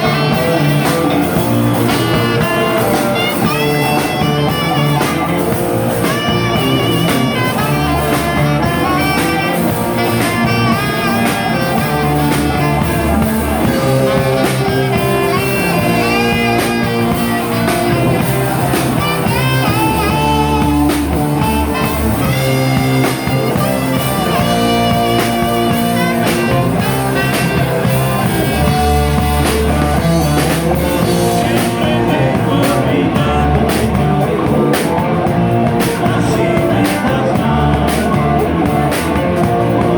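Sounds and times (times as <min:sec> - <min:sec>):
electric guitar bending notes: 0:00.0 - 0:39.9
rock band playing: 0:00.0 - 0:39.9.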